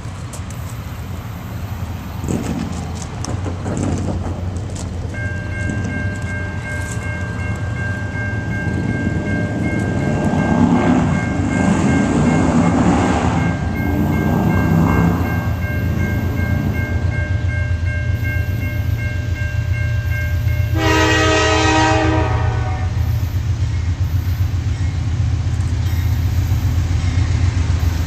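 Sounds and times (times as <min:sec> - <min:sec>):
freight train rumble: 0:00.0 - 0:28.0
crossing bell ringing: 0:00.5 - 0:03.0, 0:03.8 - 0:28.0.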